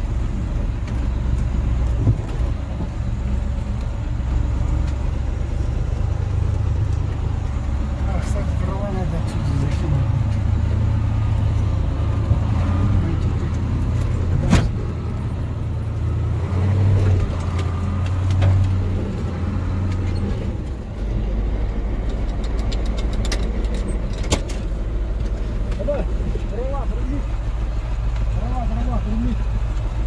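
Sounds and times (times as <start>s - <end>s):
truck engine under load: 0.0s - 30.0s.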